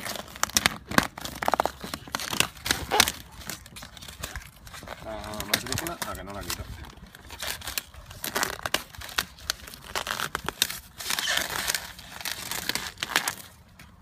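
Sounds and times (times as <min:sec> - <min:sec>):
rubbery film tearing and crinkling: 0:00.0 - 0:14.0.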